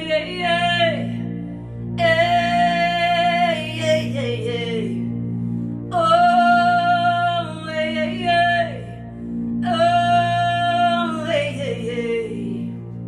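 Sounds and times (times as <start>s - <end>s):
low instrumental drone: 0.0s - 13.0s.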